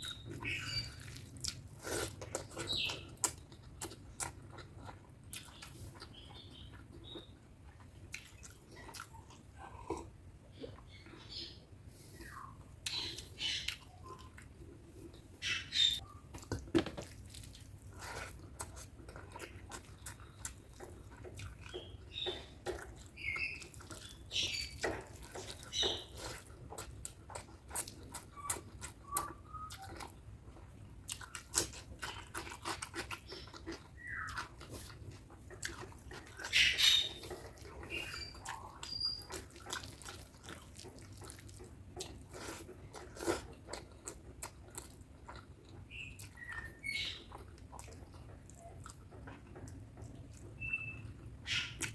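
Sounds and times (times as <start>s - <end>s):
wet chewing: 0.0s - 51.9s.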